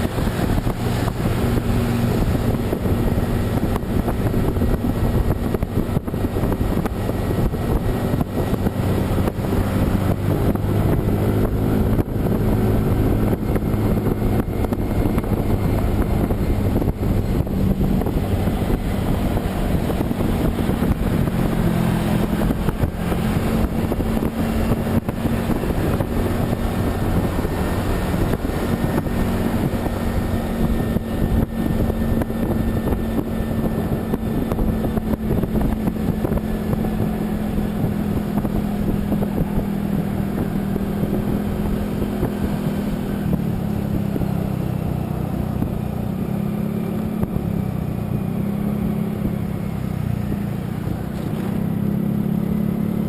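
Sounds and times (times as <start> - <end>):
road and wind noise: 0.0 - 53.0
vehicle engine drone: 0.0 - 53.0.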